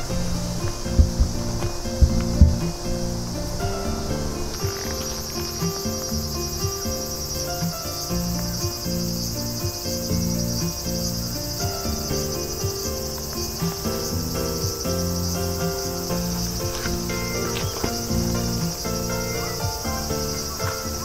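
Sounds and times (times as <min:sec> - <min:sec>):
background music of sustained notes: 0:00.0 - 0:21.0
insects trilling: 0:00.0 - 0:21.0.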